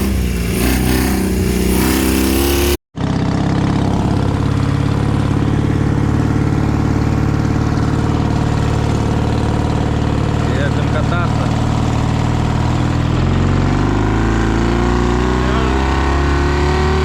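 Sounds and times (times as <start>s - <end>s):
steady engine note: 0.0s - 17.0s
vehicle engine revving: 0.0s - 17.0s.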